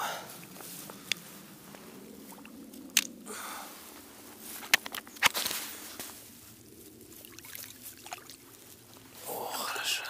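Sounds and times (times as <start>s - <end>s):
dry grass rustling: 0.1s - 10.0s.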